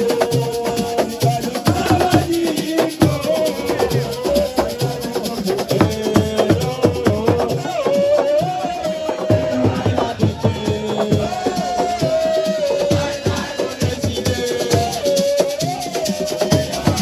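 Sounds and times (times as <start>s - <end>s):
shaken rattles: 0.0s - 8.7s, 11.4s - 17.0s
fast drumming: 0.0s - 17.0s.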